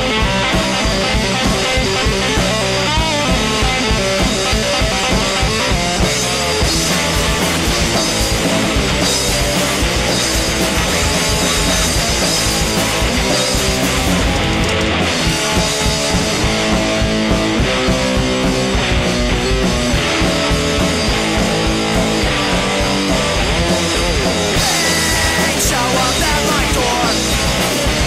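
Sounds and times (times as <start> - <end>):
punk rock band playing: 0.0 - 28.0.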